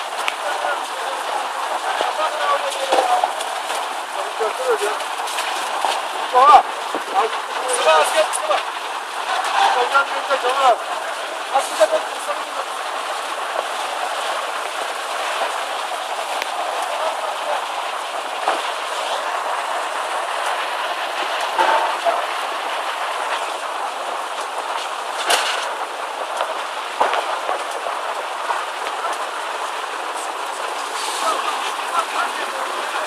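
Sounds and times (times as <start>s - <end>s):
floodwater rushing: 0.0s - 33.0s.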